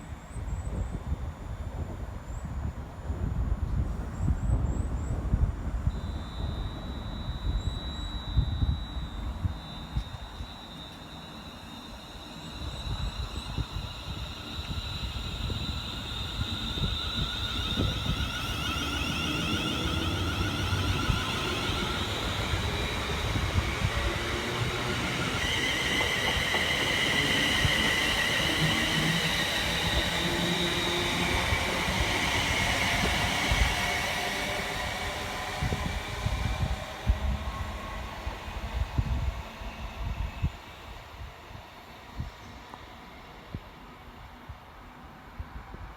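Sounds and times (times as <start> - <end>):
passenger train passing: 0.0 - 45.9.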